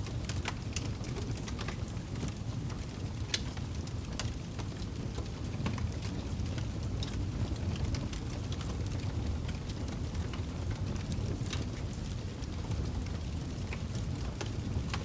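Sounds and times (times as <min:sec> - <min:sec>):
low rumble of flames: 0:00.0 - 0:15.0
fire crackles and pops: 0:00.1 - 0:15.0.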